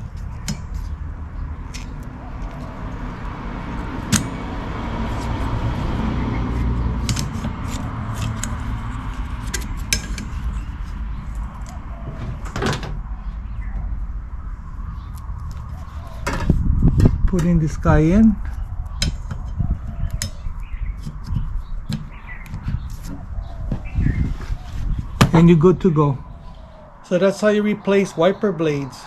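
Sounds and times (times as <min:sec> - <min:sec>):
steady low rumble: 0:00.0 - 0:27.2.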